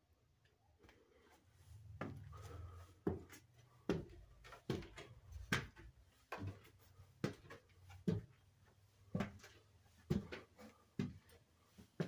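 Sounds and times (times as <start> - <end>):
footsteps on wooden stairs: 2.0 - 12.0.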